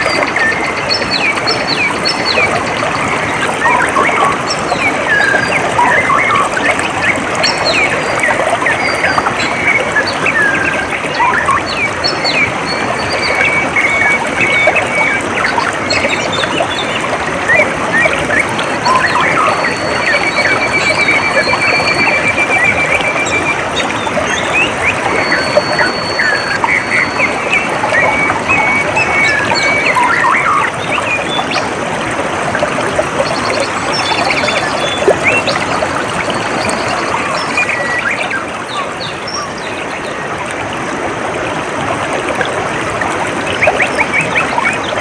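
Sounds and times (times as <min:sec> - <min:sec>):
flowing water: 0:00.0 - 0:45.0.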